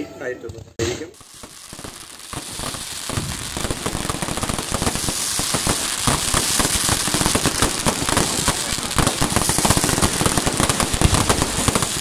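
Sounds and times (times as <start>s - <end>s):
fireworks crackling and bursting: 1.1s - 12.0s.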